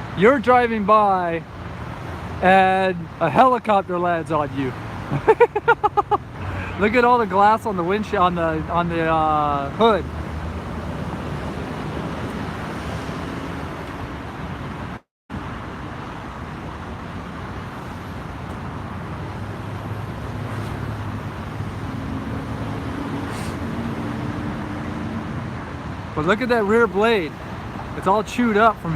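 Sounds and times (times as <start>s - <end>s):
freeway traffic: 0.0s - 28.9s.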